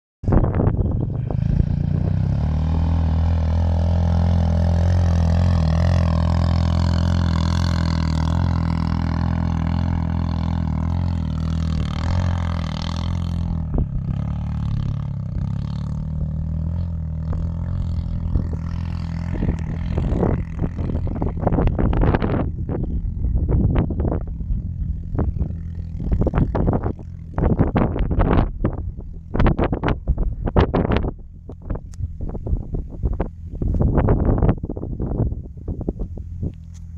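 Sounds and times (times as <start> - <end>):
atv engine running under load: 0.3 - 36.9.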